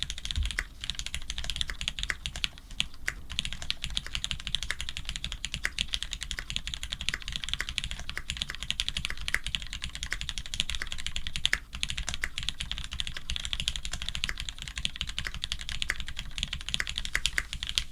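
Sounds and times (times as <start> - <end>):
fast typing on mechanical keyboard: 0.0 - 17.9.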